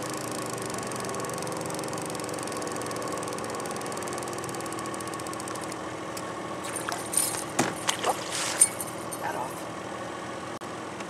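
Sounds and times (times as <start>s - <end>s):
boat motor running: 0.0s - 10.6s.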